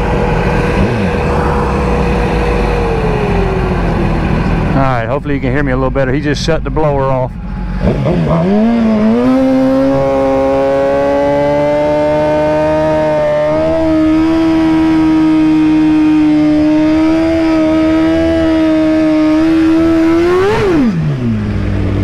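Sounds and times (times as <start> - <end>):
motorcycle engine revving: 0.0 - 5.0, 7.5 - 22.0.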